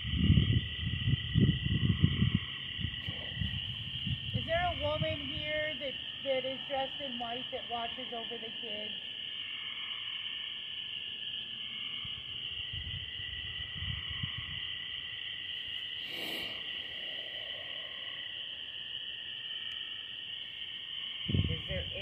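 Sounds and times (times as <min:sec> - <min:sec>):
shrill chorus of night insects: 0:00.0 - 0:22.0.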